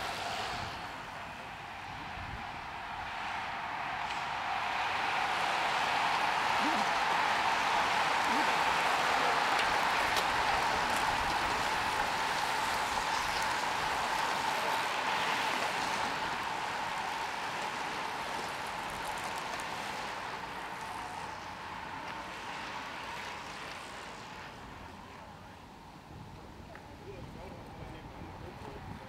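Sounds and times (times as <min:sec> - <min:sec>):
bicycle tyres hissing on asphalt: 0:00.0 - 0:26.6.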